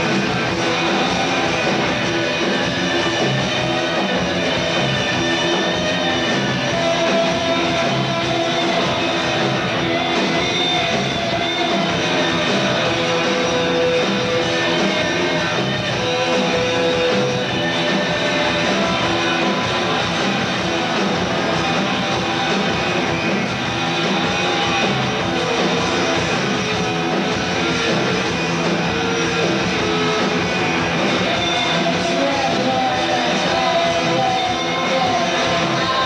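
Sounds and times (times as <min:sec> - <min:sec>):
bass guitar: 0:00.0 - 0:36.0
electric guitar: 0:00.0 - 0:36.0.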